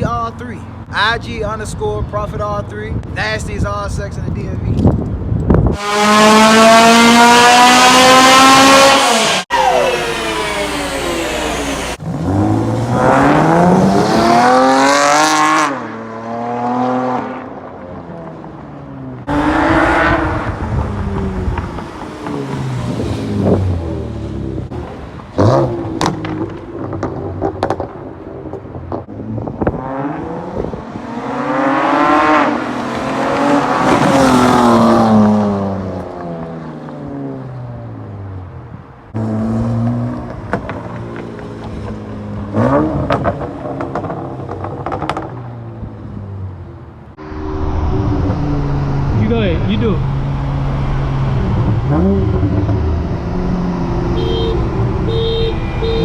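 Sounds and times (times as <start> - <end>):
car engine revving: 5.7 - 17.8, 19.2 - 38.2, 39.1 - 56.0.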